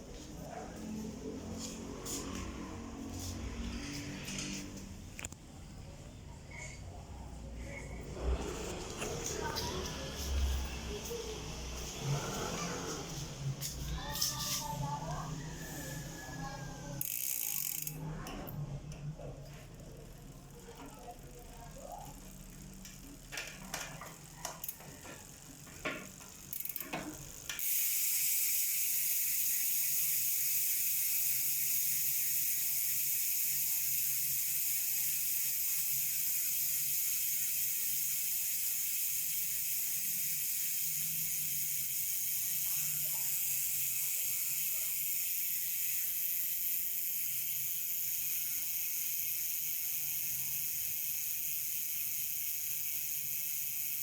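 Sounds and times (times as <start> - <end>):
bicycle hub ratcheting buzz: 0.0 - 5.4, 6.4 - 54.0
bicycle hub pawl clicks: 0.1 - 5.5, 6.5 - 54.0.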